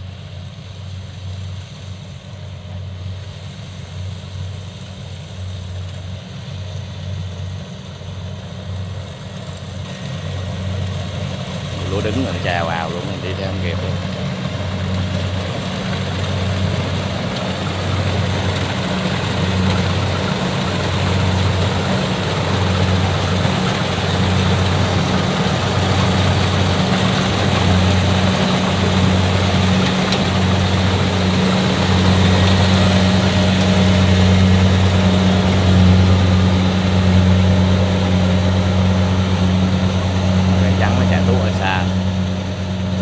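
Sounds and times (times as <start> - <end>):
diesel engine running under load: 0.0 - 43.0.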